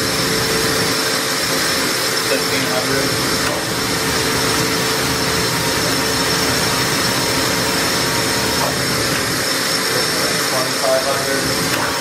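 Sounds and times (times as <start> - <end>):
machine spindle whining: 0.0 - 12.0.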